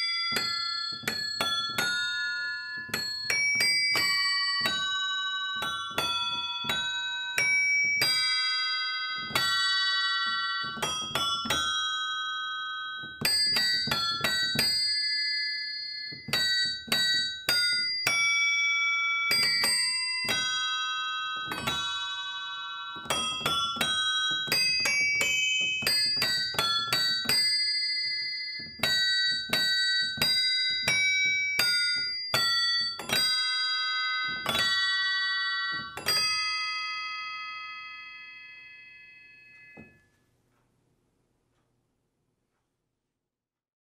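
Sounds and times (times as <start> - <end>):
bell instrument playing tune: 0.0 - 40.2.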